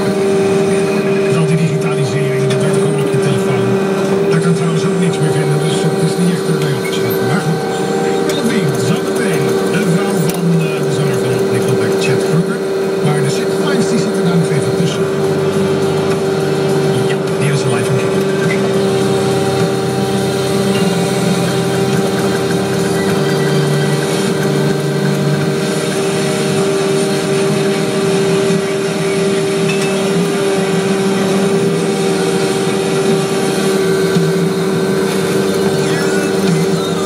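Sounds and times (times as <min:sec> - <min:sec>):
machine engine drone: 0:00.0 - 0:37.0
steady machine whine: 0:00.0 - 0:37.0.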